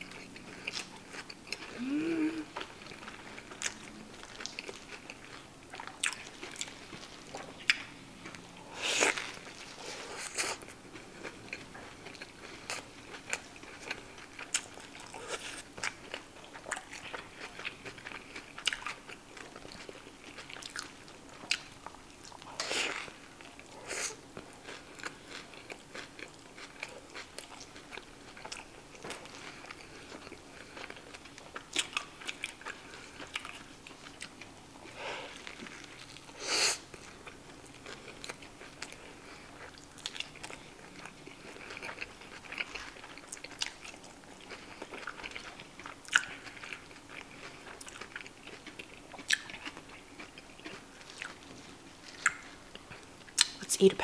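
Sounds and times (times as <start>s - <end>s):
chewing burger: 0.0s - 53.6s.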